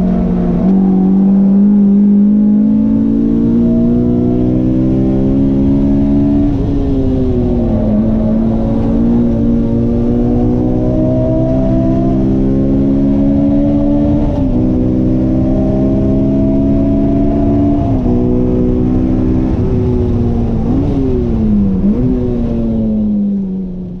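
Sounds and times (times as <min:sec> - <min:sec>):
car engine at full throttle: 0:00.0 - 0:24.0.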